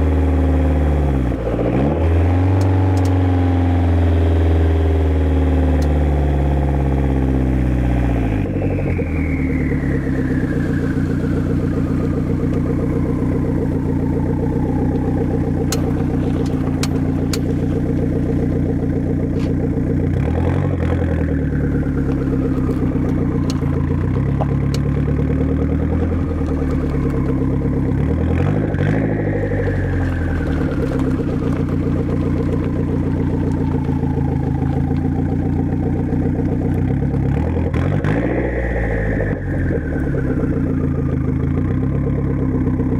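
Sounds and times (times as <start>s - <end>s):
car engine being driven: 0.0s - 42.9s.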